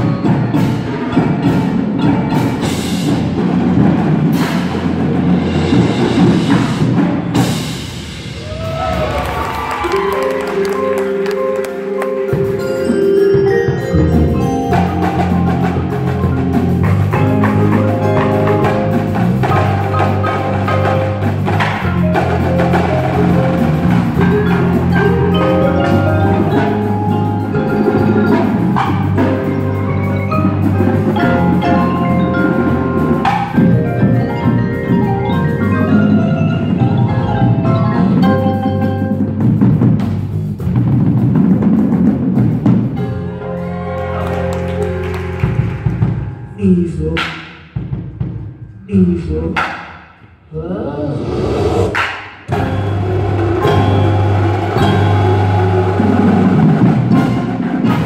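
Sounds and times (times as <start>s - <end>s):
marimbas and vibraphones: 0.0s - 8.2s, 9.8s - 47.3s, 52.5s - 58.0s.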